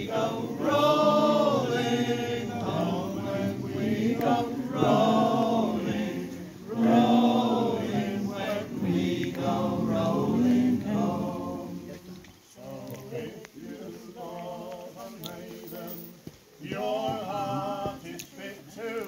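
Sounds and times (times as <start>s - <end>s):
voices singing a cappella: 0.0s - 19.0s.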